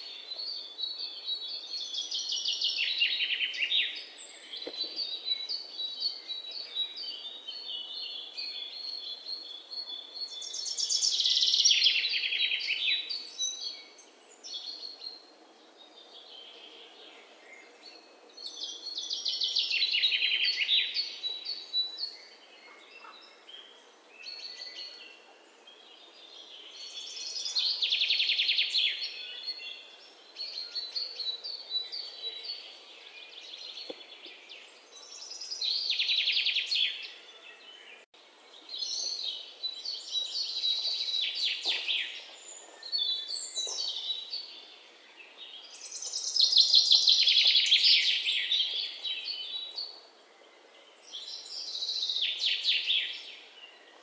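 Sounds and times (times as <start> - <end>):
faint outdoor hiss: 0.0 - 54.0.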